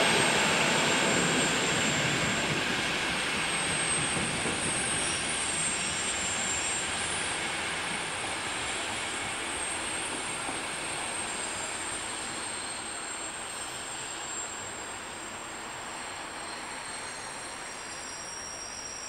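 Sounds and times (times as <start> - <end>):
diesel train rumble: 0.0 - 18.9.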